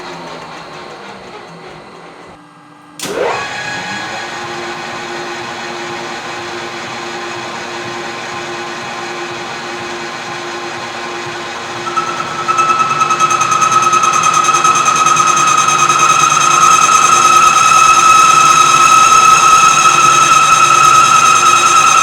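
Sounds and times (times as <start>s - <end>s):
lathe motor winding down: 0.0s - 2.4s, 3.0s - 22.0s
lathe motor running hum: 0.0s - 22.0s.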